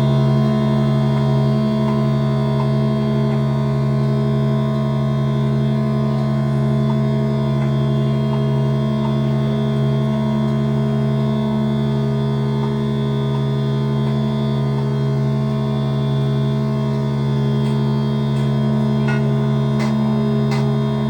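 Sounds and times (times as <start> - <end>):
synthesizer drone: 0.0 - 21.0.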